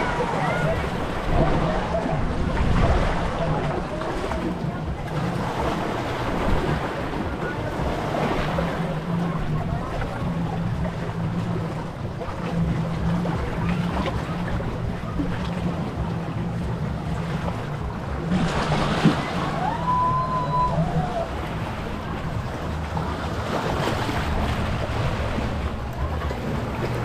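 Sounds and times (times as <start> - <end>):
steady low hum: 0.0 - 27.0
surf washing on a beach: 0.0 - 27.0
wind on microphone: 0.0 - 27.0.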